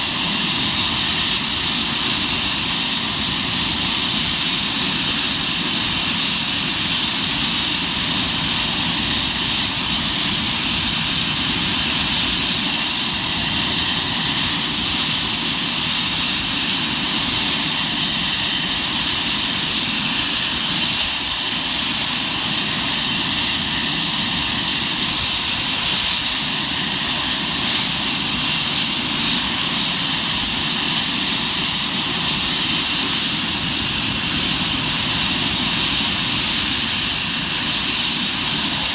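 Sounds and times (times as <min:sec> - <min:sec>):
high-pitched compressor whine: 0:00.0 - 0:38.9
jet engine roar: 0:00.0 - 0:38.9.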